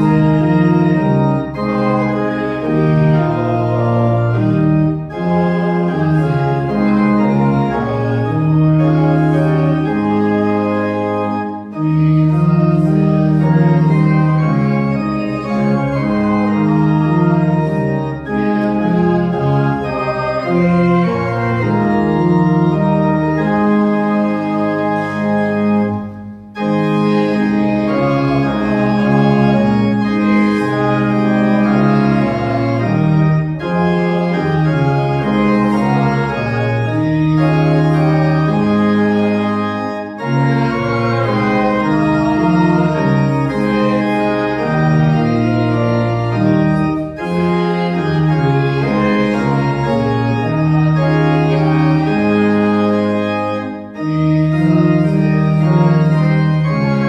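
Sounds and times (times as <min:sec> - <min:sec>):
organ playing a hymn: 0:00.0 - 0:57.0.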